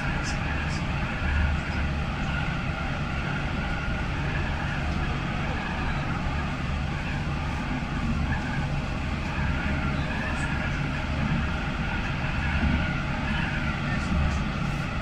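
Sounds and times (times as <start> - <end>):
constant low hum: 0.0 - 15.0
tram wheels on rail: 0.0 - 15.0.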